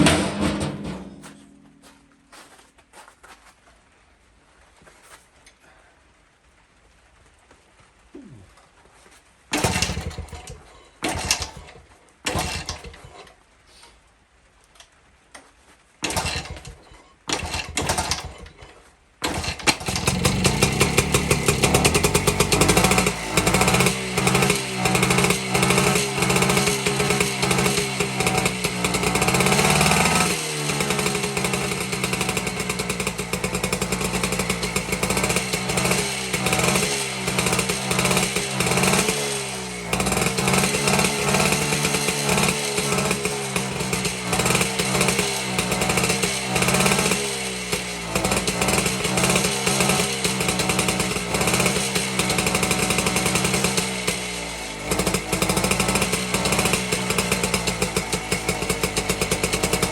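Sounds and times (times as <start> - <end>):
two-stroke engine revving: 0.0 - 1.9, 9.5 - 13.3, 16.0 - 59.9.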